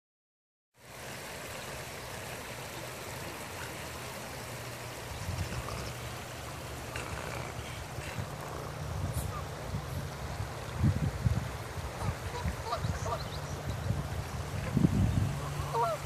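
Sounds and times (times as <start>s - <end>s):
river water rushing over stones: 0.8s - 16.0s.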